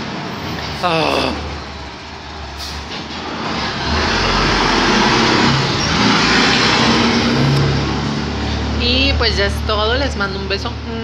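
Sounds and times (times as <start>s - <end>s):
heavy vehicle engine rumble: 0.0s - 11.0s.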